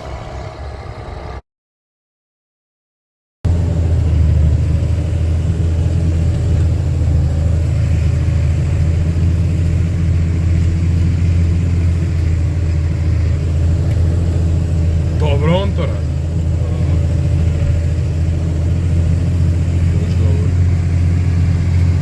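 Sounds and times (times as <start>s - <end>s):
tractor diesel engine droning: 0.0s - 1.4s, 3.5s - 22.0s.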